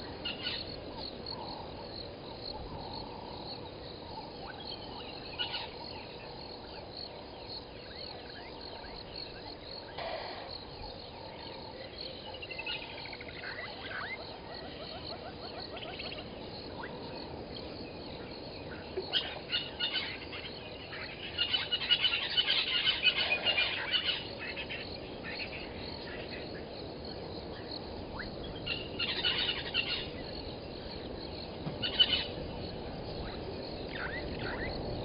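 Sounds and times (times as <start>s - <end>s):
bird calls: 0.0s - 1.9s, 2.5s - 35.0s
frogs calling: 0.0s - 35.0s
insects chirping: 0.0s - 35.0s.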